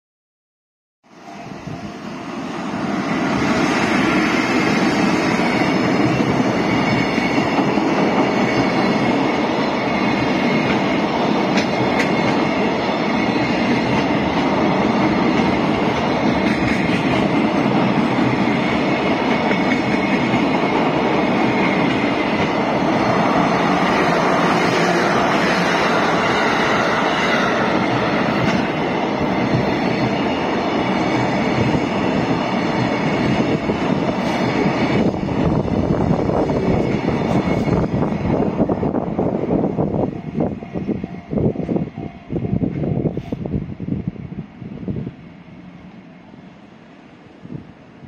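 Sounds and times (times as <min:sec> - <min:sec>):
freight train wheels clattering: 0:03.2 - 0:42.0.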